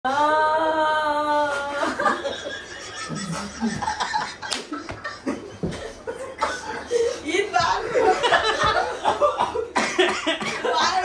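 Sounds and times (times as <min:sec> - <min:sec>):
young people laughing: 0:01.7 - 0:11.0.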